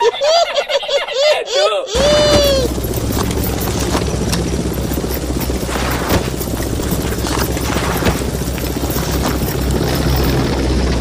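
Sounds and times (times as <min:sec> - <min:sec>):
helicopter engine and rotor: 0:01.9 - 0:11.0.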